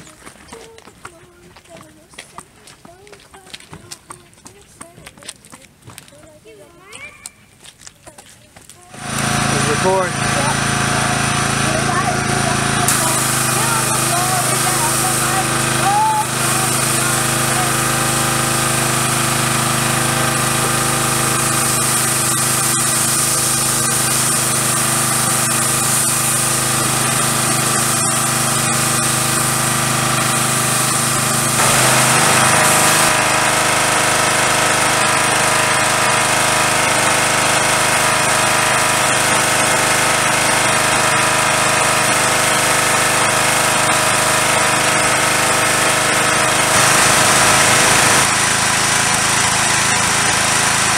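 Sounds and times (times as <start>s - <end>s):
pressure washer motor drone: 8.9s - 50.9s
pressure washer spray hiss: 9.0s - 50.9s.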